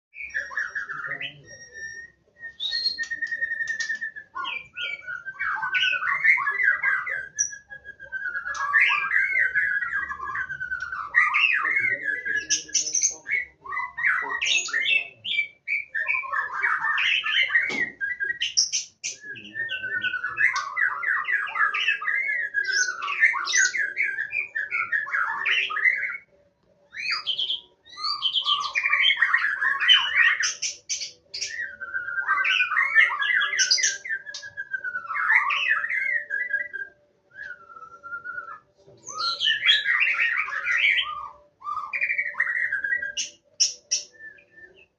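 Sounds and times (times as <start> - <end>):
songbird warbling and whistling: 0.1 - 26.3, 26.9 - 44.9.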